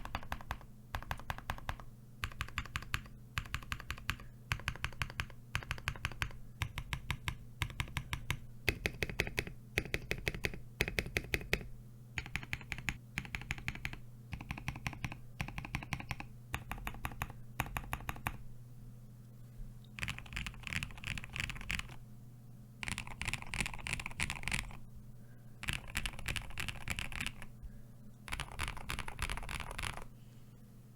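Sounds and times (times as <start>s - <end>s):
mechanical keyboard typing: 0.0s - 18.4s, 20.0s - 22.0s, 22.8s - 24.8s, 25.6s - 27.5s, 28.3s - 30.1s
steady low hum: 0.0s - 30.9s.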